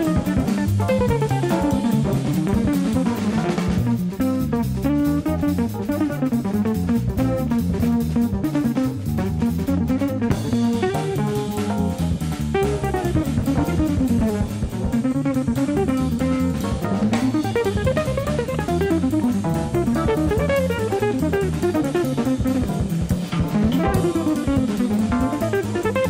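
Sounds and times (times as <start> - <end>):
background music with drum beat: 0.0 - 26.0.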